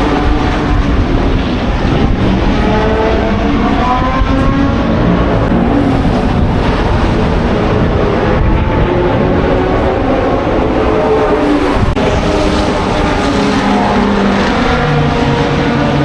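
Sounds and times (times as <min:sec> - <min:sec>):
racing car engines accelerating: 0:00.0 - 0:16.0.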